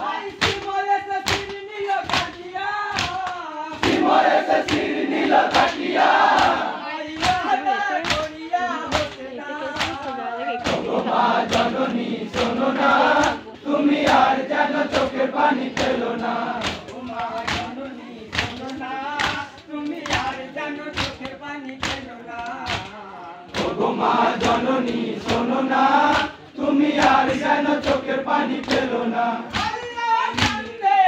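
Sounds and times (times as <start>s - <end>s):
crowd of men chanting: 0.0s - 31.0s
hands slapping chests: 0.2s - 30.8s.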